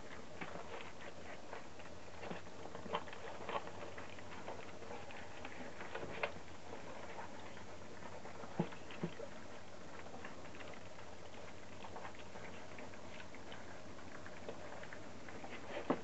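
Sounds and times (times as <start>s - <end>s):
puppies lapping and smacking: 0.0s - 16.0s.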